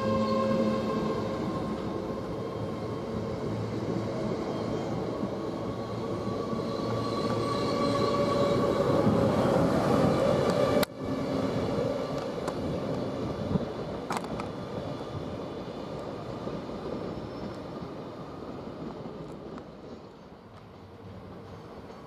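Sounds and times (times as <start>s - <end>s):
train rumble: 0.0s - 22.0s
train whine: 0.0s - 22.0s.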